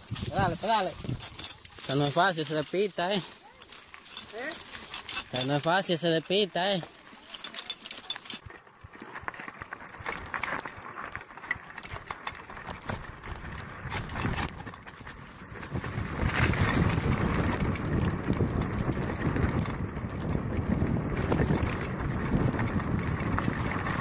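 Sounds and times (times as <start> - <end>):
mountain bike rattling: 0.0 - 24.0
tyres on dirt: 0.0 - 24.0.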